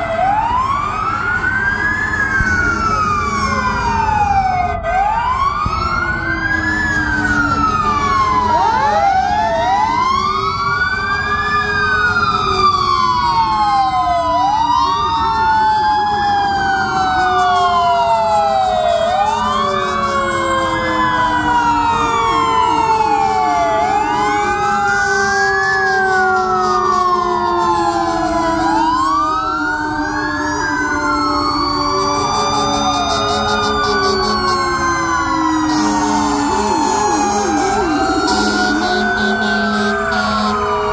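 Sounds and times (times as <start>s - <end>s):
fire truck sirens wailing: 0.0s - 40.9s.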